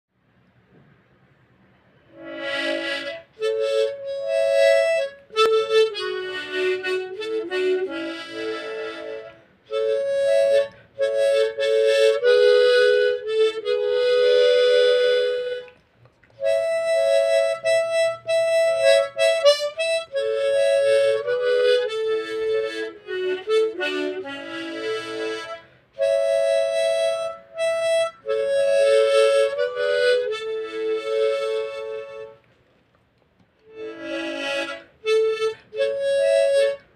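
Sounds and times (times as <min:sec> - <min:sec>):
harmonica ballad melody: 0:02.1 - 0:15.8, 0:16.4 - 0:32.5, 0:33.6 - 0:36.9.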